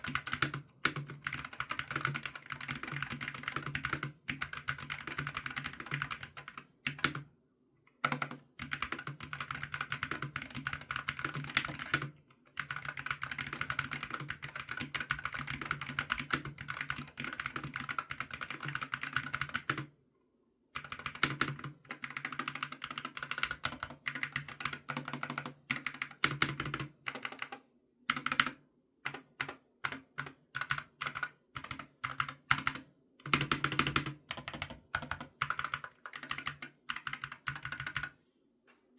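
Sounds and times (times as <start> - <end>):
mechanical keyboard typing: 0.0 - 7.2, 8.0 - 19.9, 20.8 - 38.1.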